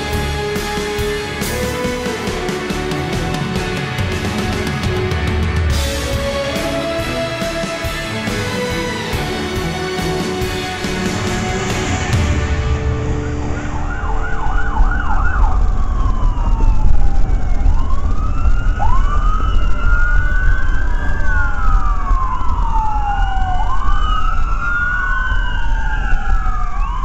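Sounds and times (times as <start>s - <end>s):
siren fast yelp: 0.0s - 12.2s, 13.1s - 27.0s
low road and engine rumble: 0.0s - 27.0s
sirens wailing: 0.0s - 27.0s.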